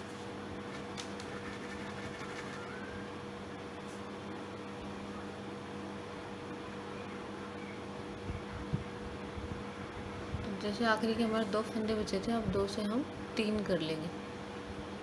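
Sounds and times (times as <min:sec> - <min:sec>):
appliance machine hum: 0:00.0 - 0:15.0.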